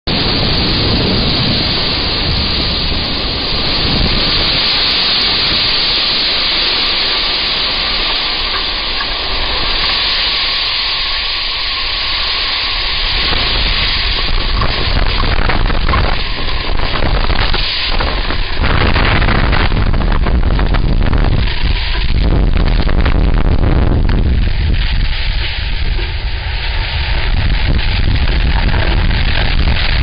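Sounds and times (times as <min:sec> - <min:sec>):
wildfire burning: 0:00.1 - 0:30.0.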